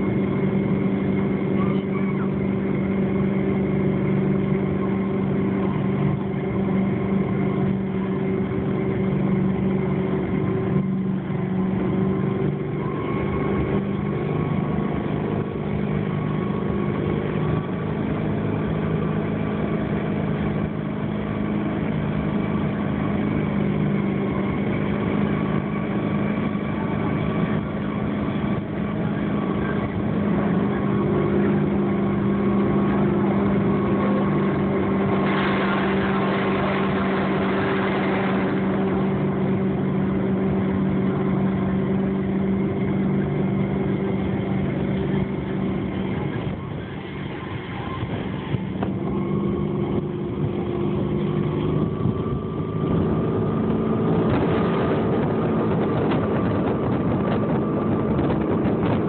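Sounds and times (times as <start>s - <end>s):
motorboat engine running: 0.0s - 59.0s
water rushing: 0.0s - 59.0s.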